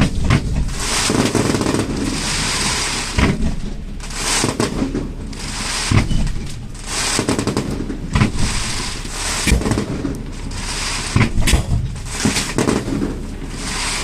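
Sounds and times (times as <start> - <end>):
fireworks hissing crackle: 0.0 - 14.0
fireworks sharp bangs: 0.0 - 14.0.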